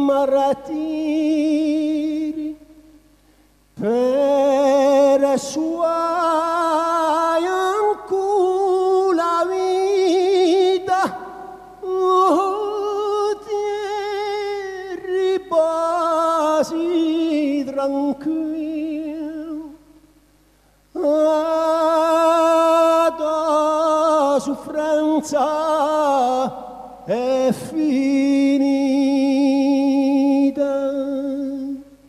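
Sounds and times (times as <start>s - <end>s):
person singing unaccompanied: 0.0s - 2.7s, 3.8s - 19.8s, 20.9s - 32.0s.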